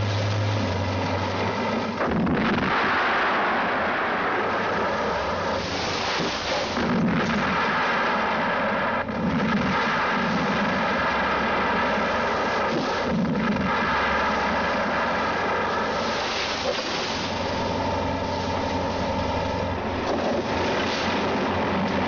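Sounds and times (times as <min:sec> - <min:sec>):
heavy blasts: 0:01.8 - 0:22.0.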